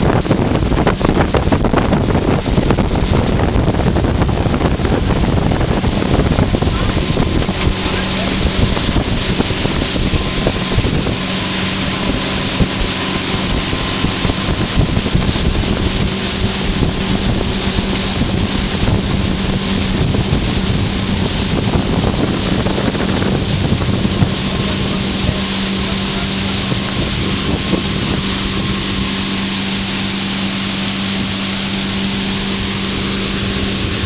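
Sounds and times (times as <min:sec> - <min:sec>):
boat engine humming: 0:00.0 - 0:34.0
wind buffeting microphone: 0:00.0 - 0:34.0.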